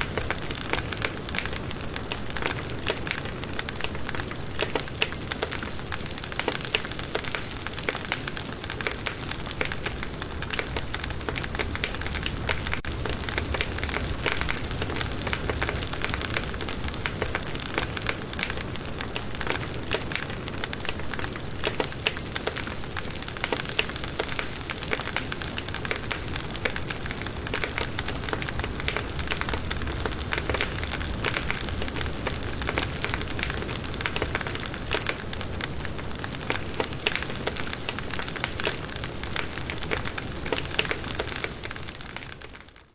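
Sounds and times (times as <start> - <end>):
low rumble of flames: 0.0 - 42.8
campfire crackling and popping: 0.0 - 42.9.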